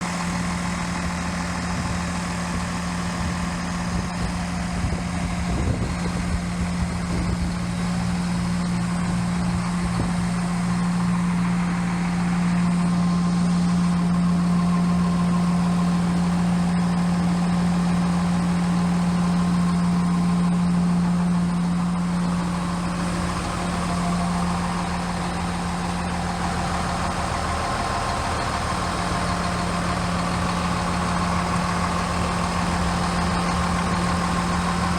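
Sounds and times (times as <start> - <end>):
machine engine idling: 0.0 - 34.9.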